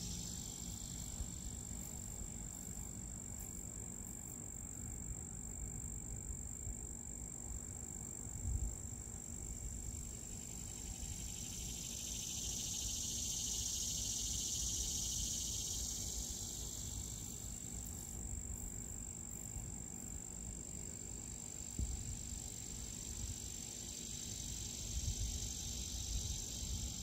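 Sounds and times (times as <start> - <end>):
insects buzzing: 0.0 - 27.0.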